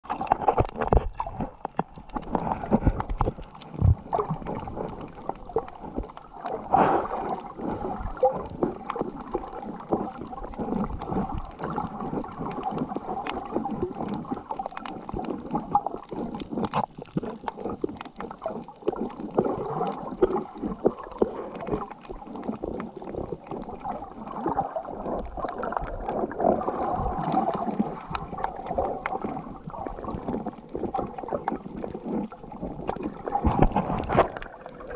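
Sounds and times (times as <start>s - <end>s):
clicks and crackles: 0.0s - 34.9s
water gurgling underwater: 0.0s - 34.9s.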